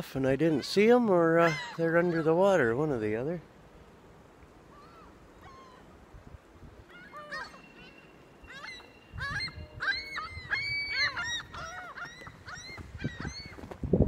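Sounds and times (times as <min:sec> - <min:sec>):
gulls calling: 0:00.0 - 0:13.8.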